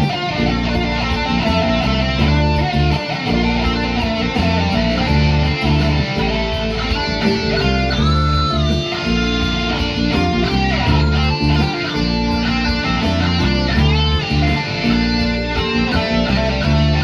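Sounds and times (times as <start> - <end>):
bass line: 0.0 - 17.0
electric guitar: 0.0 - 17.0.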